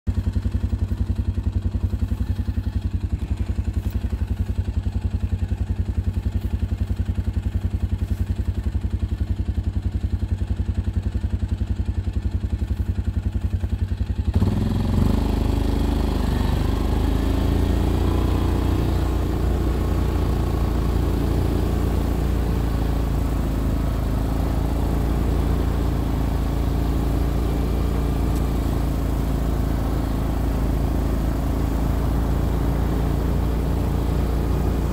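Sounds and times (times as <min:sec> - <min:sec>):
atv engine idling and revving: 0:00.0 - 0:34.9.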